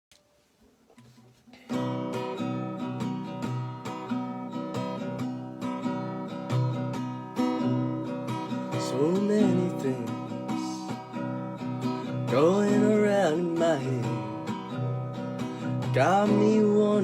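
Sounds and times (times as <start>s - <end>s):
acoustic guitar strumming chords: 1.0s - 17.0s.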